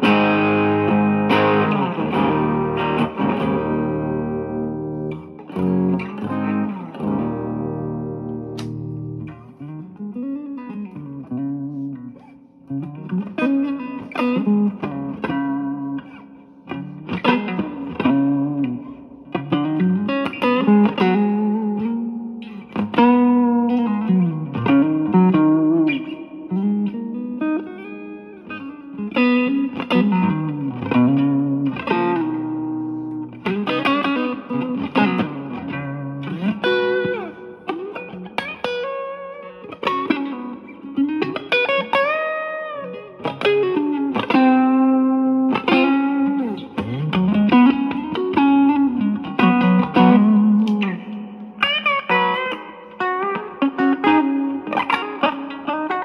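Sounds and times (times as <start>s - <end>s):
electric guitar with string bends: 0.0s - 56.0s.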